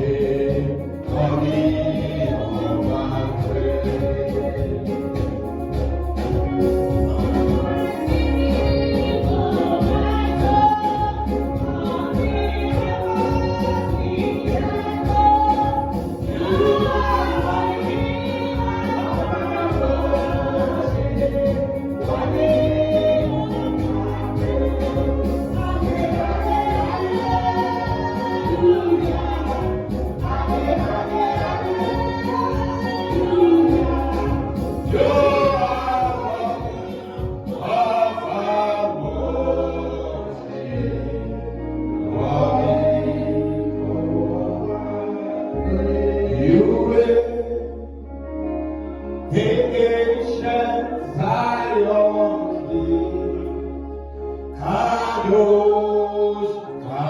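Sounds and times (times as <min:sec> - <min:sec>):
group of voices singing: 0:00.0 - 0:57.0
instrumental backing: 0:00.0 - 0:57.0.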